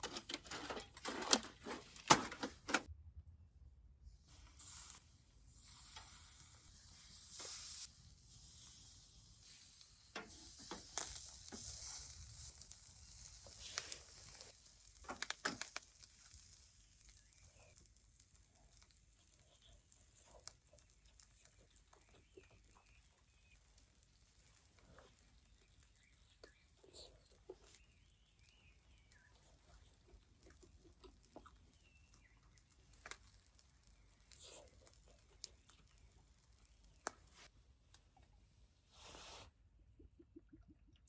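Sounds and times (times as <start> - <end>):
food sizzling: 4.5 - 37.5.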